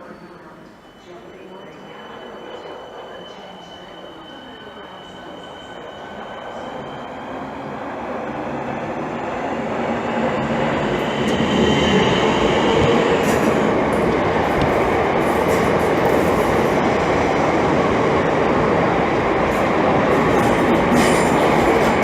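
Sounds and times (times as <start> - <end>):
passenger train rolling: 0.0 - 22.0.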